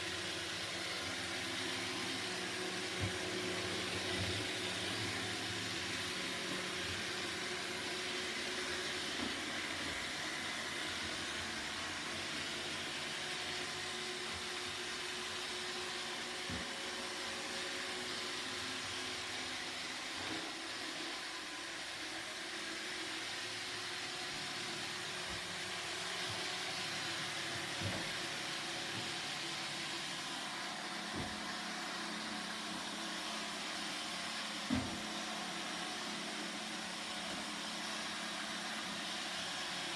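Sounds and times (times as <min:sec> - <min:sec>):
robot vacuum humming: 0:00.0 - 0:39.9.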